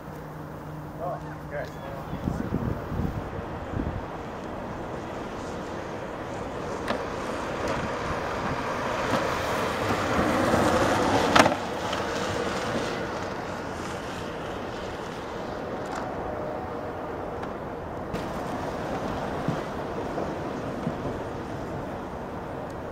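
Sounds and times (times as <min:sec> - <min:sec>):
bicycle tyre and air rushing: 0:00.0 - 0:22.9.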